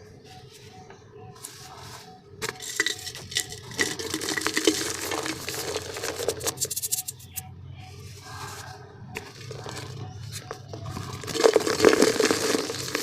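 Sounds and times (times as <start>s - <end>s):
dry dirt crumbling and crunching: 1.4s - 7.4s, 8.2s - 13.0s.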